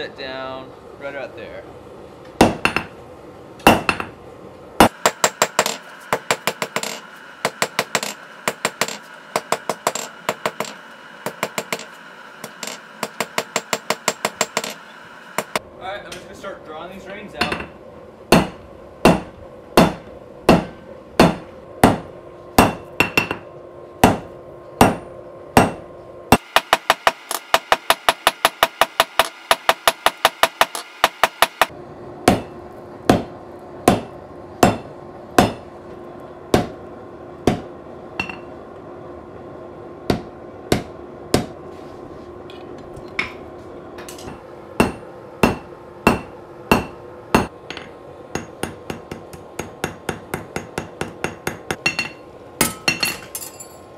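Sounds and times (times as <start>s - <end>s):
hammer striking hot steel on anvil: 2.4s - 3.0s, 3.6s - 4.2s, 4.8s - 16.3s, 17.4s - 35.7s, 36.5s - 36.8s, 37.4s - 38.6s, 40.1s - 41.6s, 44.0s - 53.8s.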